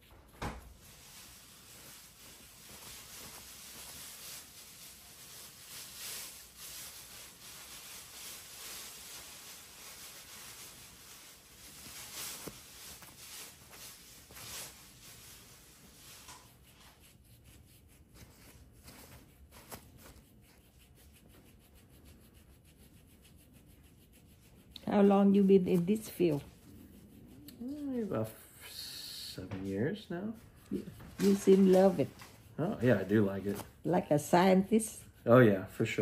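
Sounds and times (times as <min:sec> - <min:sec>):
sponge scrubbing skin: 0:00.8 - 0:28.4, 0:29.5 - 0:36.0.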